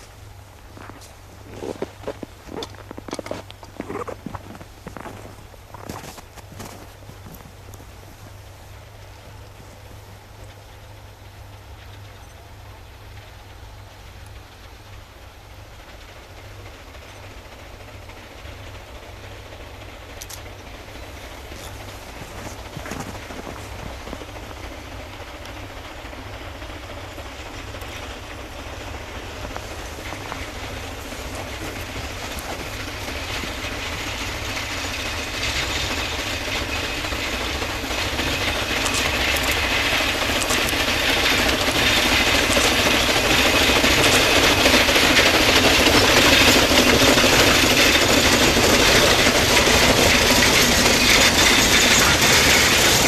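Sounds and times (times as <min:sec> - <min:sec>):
steam locomotive approaching on rails: 0:00.0 - 0:53.0.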